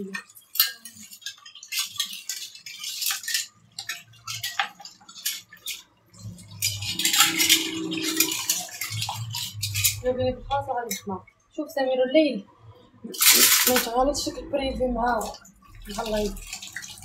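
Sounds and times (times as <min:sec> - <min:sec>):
kitchenware clinking and clattering: 0:00.0 - 0:11.6, 0:13.0 - 0:17.0.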